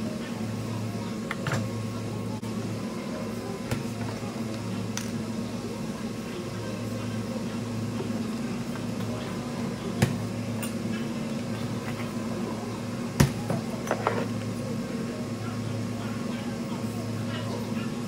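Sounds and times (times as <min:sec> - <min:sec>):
electrical appliance hum: 0:00.0 - 0:18.0.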